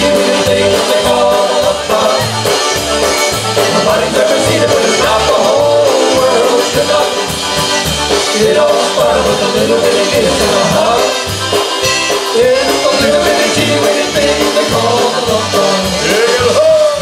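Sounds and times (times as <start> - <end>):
polka band playing: 0.0 - 17.0.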